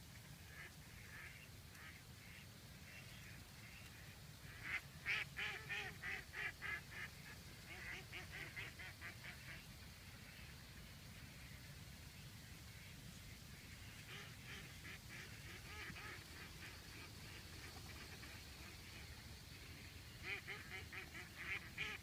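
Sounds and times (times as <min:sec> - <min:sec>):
ducks quacking: 0:00.5 - 0:09.7, 0:13.6 - 0:22.0.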